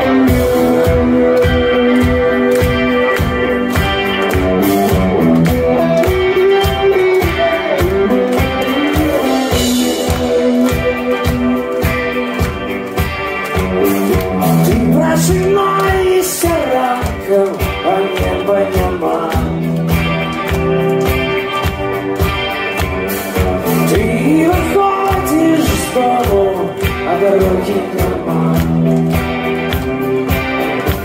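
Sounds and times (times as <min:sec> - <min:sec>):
drum kit beat: 0:00.0 - 0:31.0
electric guitars: 0:00.0 - 0:31.0.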